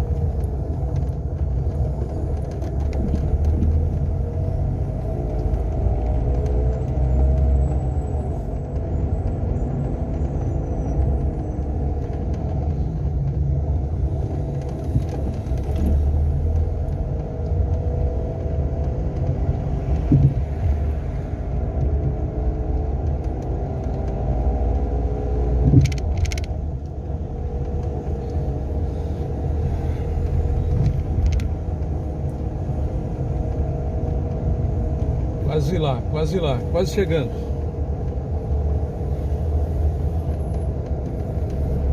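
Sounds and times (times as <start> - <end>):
car engine rumble: 0.0 - 41.9.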